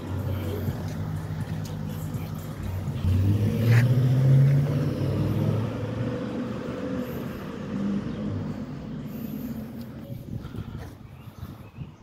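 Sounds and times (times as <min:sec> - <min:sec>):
van engine pulling away: 0:00.0 - 0:11.3.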